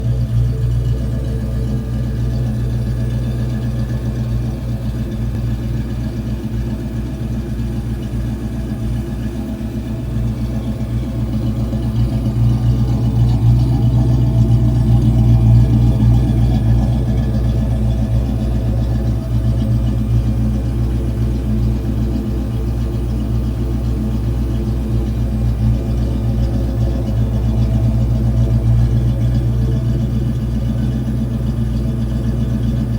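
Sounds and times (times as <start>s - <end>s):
deep car exhaust idling: 0.0s - 32.9s.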